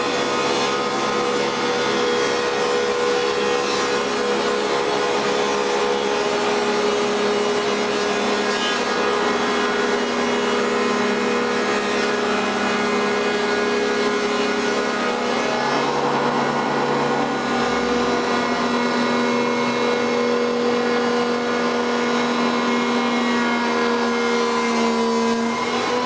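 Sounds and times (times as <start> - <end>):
wood moulder machine whining: 0.0 - 26.0.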